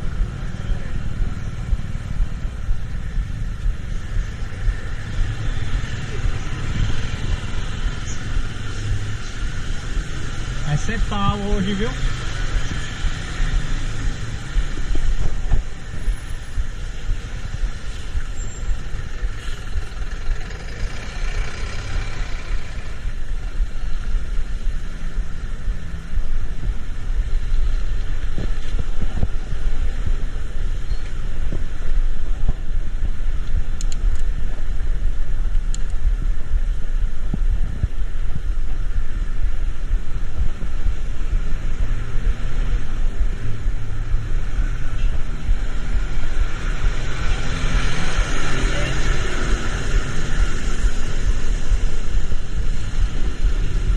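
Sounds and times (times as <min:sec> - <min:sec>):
vehicle engine and road rumble: 0:00.0 - 0:53.9.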